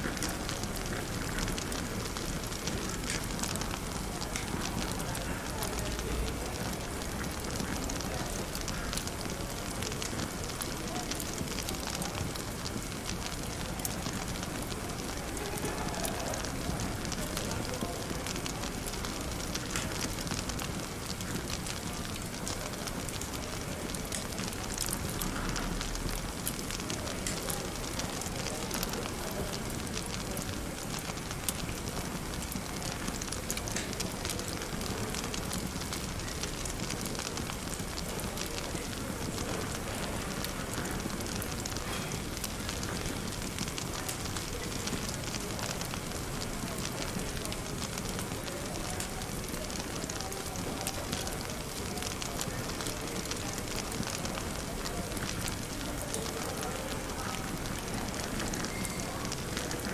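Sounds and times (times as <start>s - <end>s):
fireplace crackling and popping: 0.0s - 59.9s
murmur of cafe chatter: 0.0s - 59.9s.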